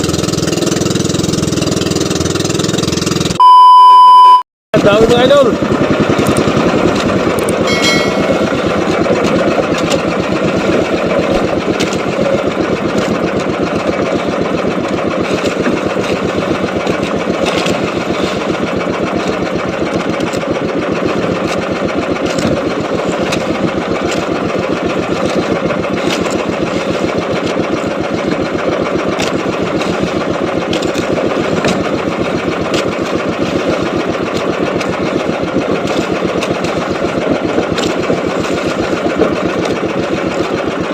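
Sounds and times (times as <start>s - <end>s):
small boat engine running: 0.0s - 3.6s, 4.8s - 40.9s.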